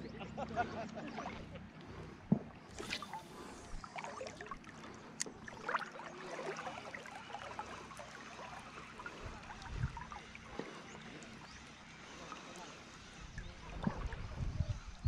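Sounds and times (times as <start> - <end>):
water lapping against boat hull: 0.3 - 15.0.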